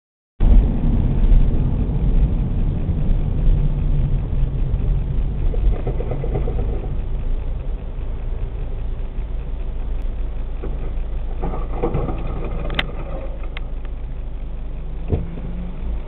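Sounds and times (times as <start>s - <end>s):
diesel truck engine running: 0.4s - 16.0s.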